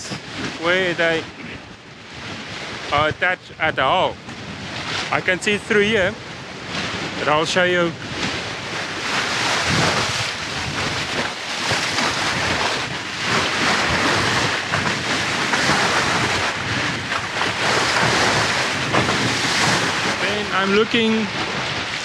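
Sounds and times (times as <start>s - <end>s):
sea water splashing along bow: 0.0s - 22.0s
wind buffeting microphone: 0.0s - 22.0s.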